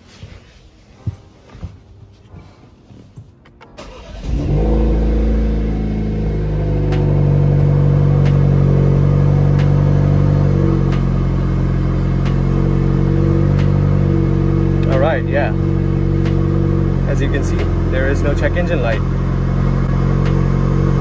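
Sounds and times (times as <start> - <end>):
car engine starting and idling: 3.6 - 21.0.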